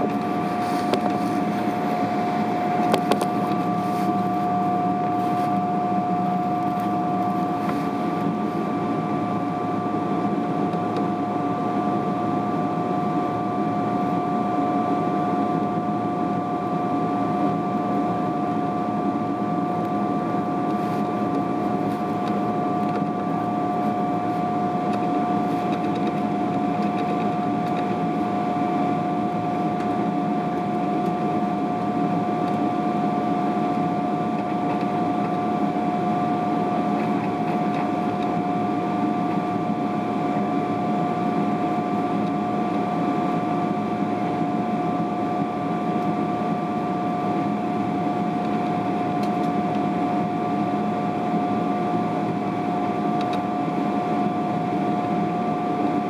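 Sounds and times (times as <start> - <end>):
airliner cabin engine drone: 0.0 - 56.0
steady whining tones: 0.0 - 56.0.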